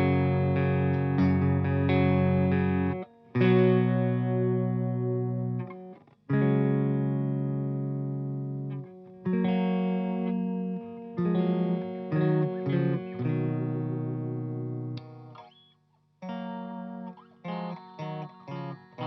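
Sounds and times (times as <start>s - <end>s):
electric guitar chords strummed: 0.0s - 15.6s, 16.2s - 19.0s.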